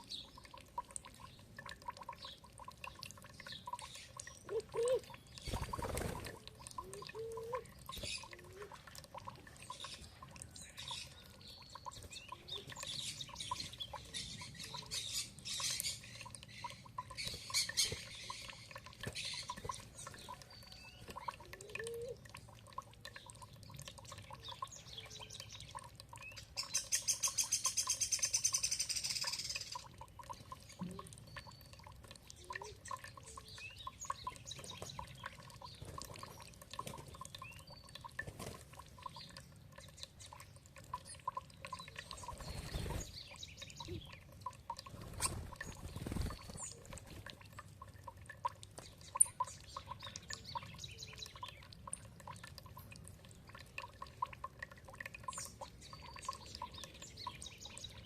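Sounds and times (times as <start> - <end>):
running water trickling: 0.0 - 58.0
songbirds chirping: 0.0 - 58.0.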